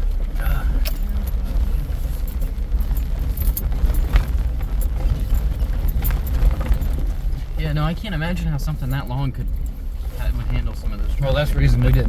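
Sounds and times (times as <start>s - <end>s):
low engine rumble: 0.0s - 12.0s
rattles and knocks: 0.0s - 12.0s.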